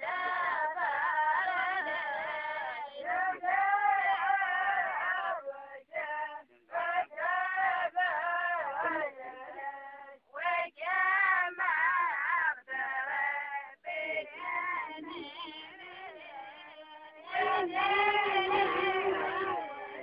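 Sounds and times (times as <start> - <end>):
person singing unaccompanied: 0.0 - 20.0.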